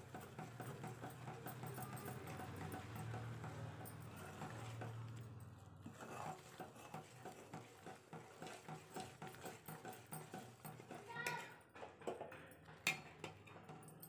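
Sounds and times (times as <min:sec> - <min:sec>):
spoon stirring thick mixture: 0:00.0 - 0:14.0.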